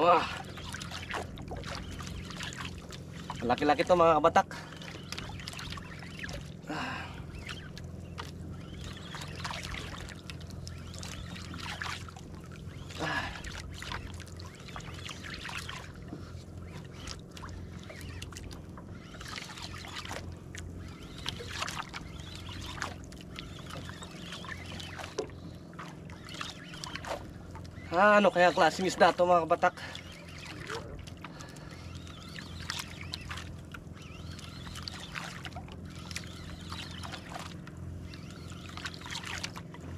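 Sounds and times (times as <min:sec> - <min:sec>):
steady low hum: 0:00.0 - 0:39.9
water slapping against boat hull: 0:00.0 - 0:39.9.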